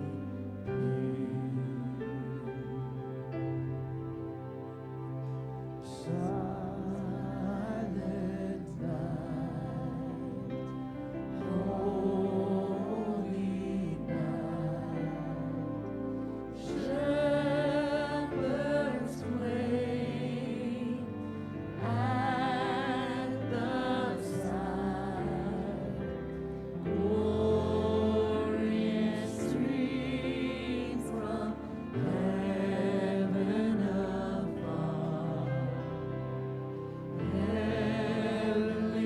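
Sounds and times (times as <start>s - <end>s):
voices singing a carol: 0.0s - 39.0s.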